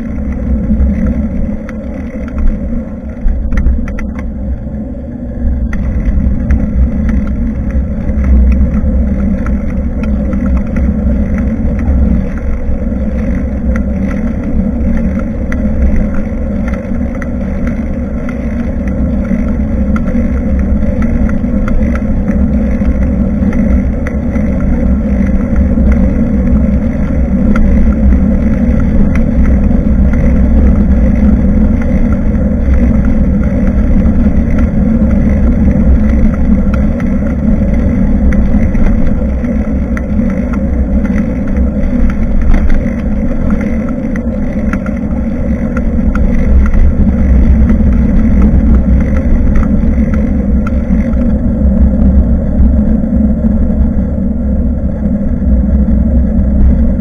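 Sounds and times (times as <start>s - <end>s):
bicycle rolling noise: 0.0s - 57.0s
wind rumble on microphone: 0.0s - 57.0s.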